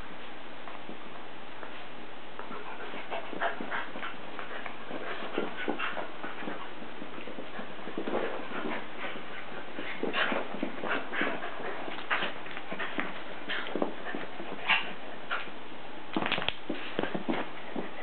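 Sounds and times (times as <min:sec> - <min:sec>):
paws scuffling and pattering: 0:00.2 - 0:18.0.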